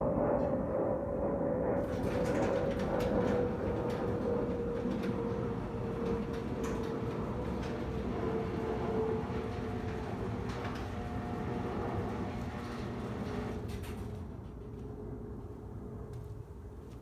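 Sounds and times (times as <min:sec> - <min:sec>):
mechanical rumble with high whine: 0:00.1 - 0:16.2.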